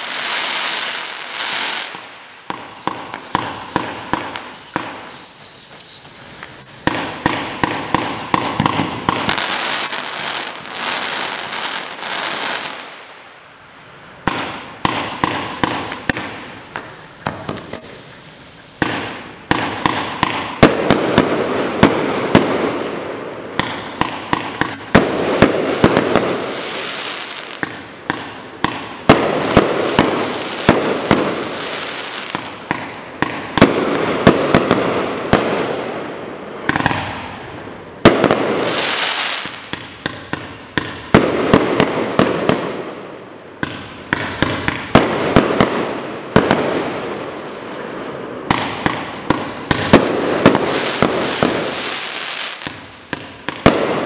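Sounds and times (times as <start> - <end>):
firework sharp bangs: 0.0 - 13.0, 14.2 - 18.2, 18.8 - 54.0
firework crackling: 0.0 - 54.0.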